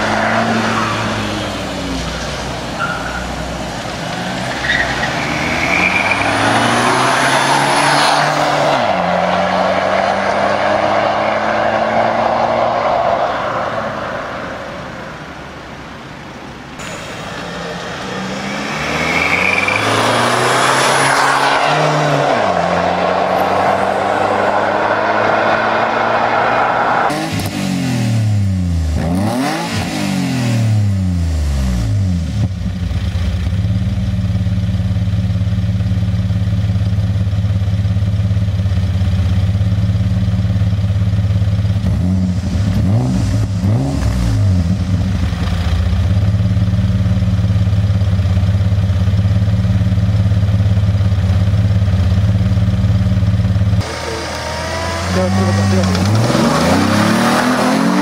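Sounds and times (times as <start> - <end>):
car engine revving and idling: 0.0 - 12.5, 16.8 - 58.0.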